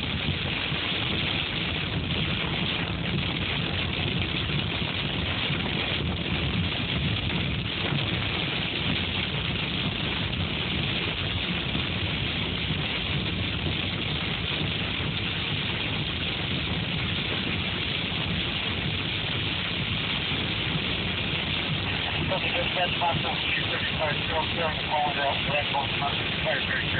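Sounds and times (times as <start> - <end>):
hail and rain on car roof: 0.0 - 26.9.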